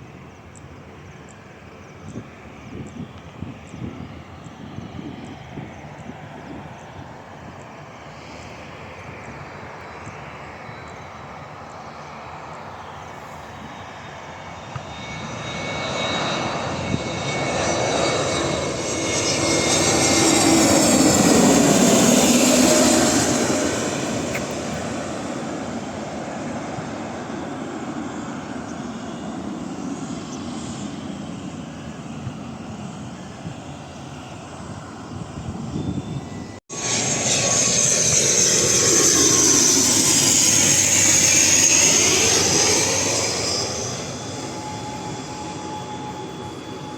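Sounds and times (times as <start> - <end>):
airliner engines passing: 0.0 - 46.9
loud aircraft sound: 0.0 - 46.9.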